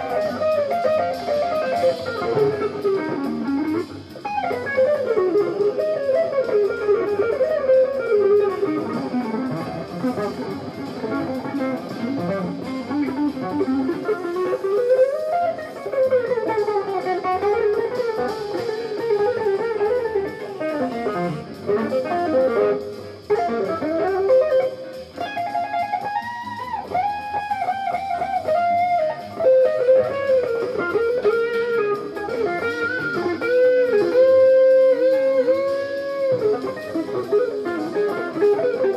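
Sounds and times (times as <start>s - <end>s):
electric guitar melody: 0.0s - 38.9s
jazz fusion instrumental: 0.0s - 38.9s.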